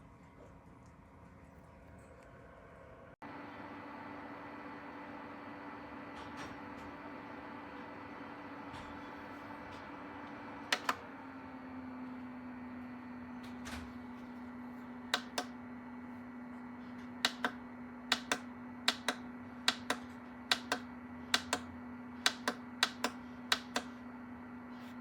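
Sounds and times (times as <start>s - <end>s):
dehumidifier humming: 0.0s - 25.0s.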